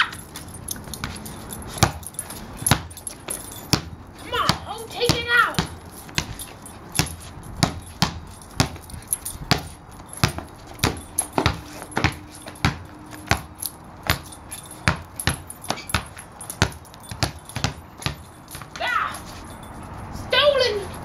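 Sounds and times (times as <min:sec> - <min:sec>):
ball bouncing on hard ground: 0:00.0 - 0:19.2.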